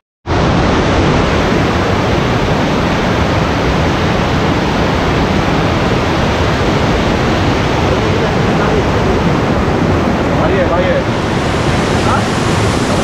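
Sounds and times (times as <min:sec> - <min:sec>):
waterfall roaring: 0:00.3 - 0:13.0.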